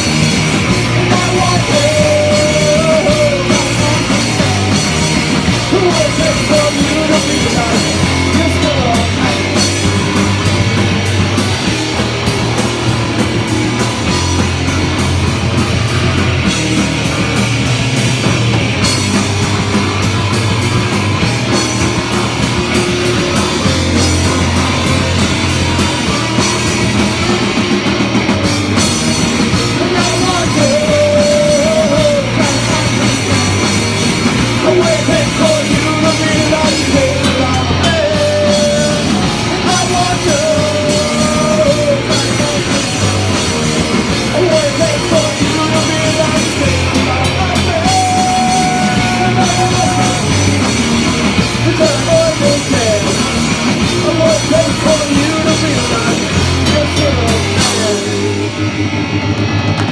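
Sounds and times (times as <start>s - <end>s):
instrumental rock music: 0.0s - 59.9s
sliding lead melody: 0.0s - 59.9s.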